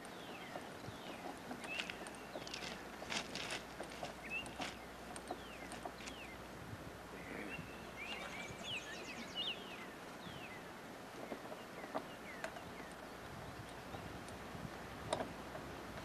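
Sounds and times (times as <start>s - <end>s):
small birds chirping: 0.0s - 6.5s, 7.1s - 14.4s
faint outdoor hiss: 0.0s - 16.0s.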